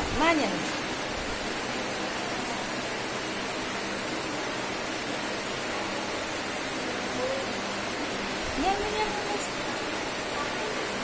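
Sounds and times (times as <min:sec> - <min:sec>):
electric fan rushing air: 0:00.0 - 0:11.0
faint low motor hum: 0:00.0 - 0:11.0.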